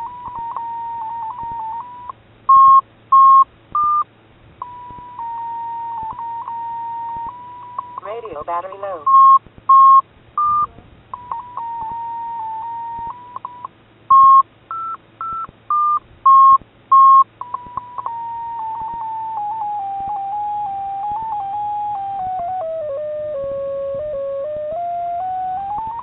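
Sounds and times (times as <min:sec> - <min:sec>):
short beeps stepping in pitch: 0:00.0 - 0:04.0, 0:04.6 - 0:26.0.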